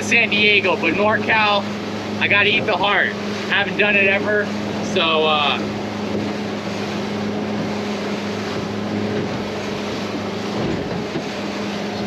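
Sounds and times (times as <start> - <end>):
boat engine humming: 0.0 - 12.0
wind and water hiss: 0.0 - 12.0.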